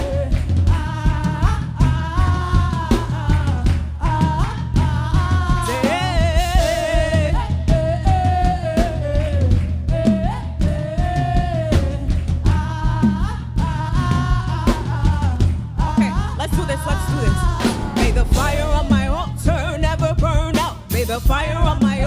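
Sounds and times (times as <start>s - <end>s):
band with drums and bass: 0.0s - 22.0s.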